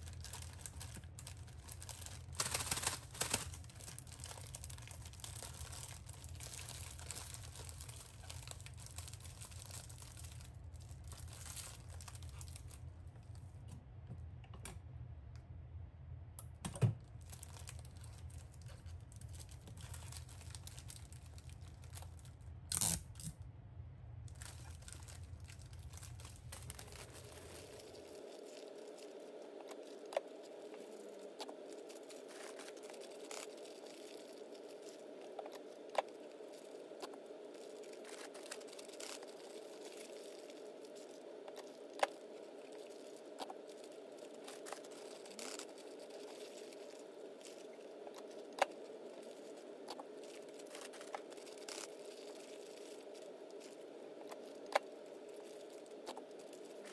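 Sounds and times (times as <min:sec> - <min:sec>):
plastic bags crinkling: 0:00.0 - 0:13.4, 0:17.1 - 0:23.3, 0:24.2 - 0:56.9
faint steady hum: 0:00.0 - 0:56.9.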